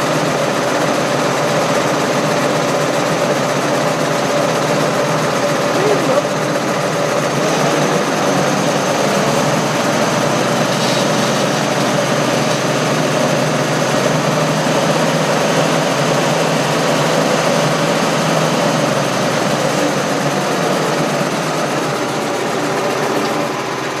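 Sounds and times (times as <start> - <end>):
tractor and harrow droning: 0.0 - 24.0.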